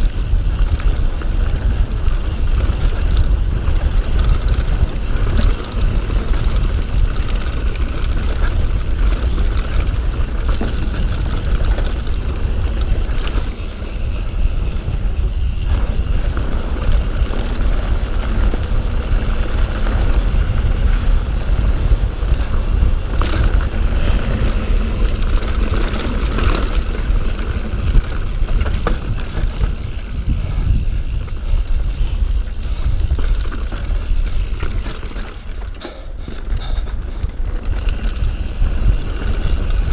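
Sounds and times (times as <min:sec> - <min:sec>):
bike rattles and knocks: 0:00.0 - 0:39.9
bike tyres rolling on rough trail: 0:00.0 - 0:39.9
wind buffeting microphone: 0:00.0 - 0:39.9.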